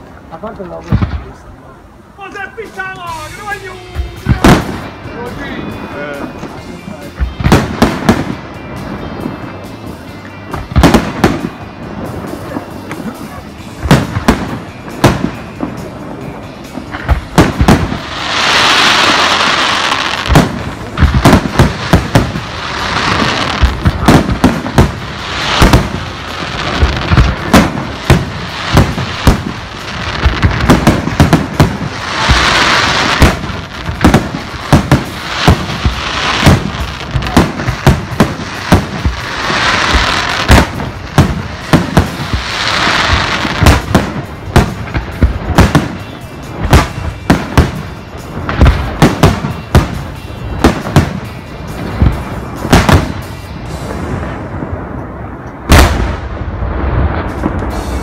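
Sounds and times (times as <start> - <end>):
firework bursts and bangs: 0.0 - 1.5, 2.2 - 58.0
firework hissing crackle: 0.0 - 58.0.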